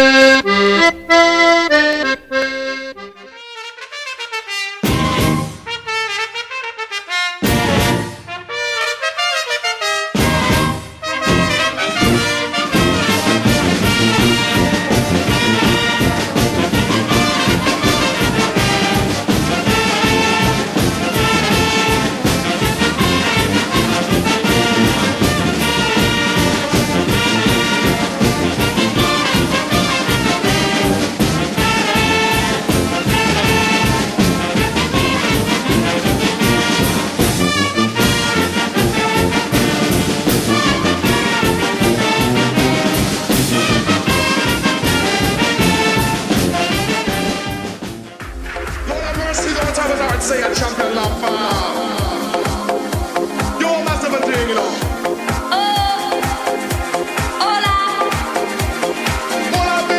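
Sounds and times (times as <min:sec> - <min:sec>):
festive brass band music: 0:00.0 - 0:59.9.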